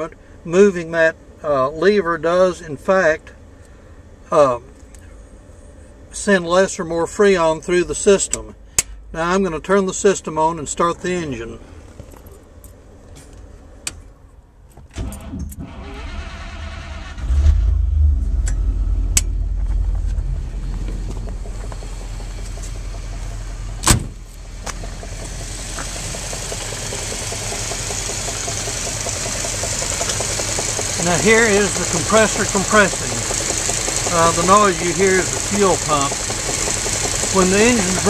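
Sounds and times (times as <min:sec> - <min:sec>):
car engine starting and idling: 0:02.2 - 0:38.0.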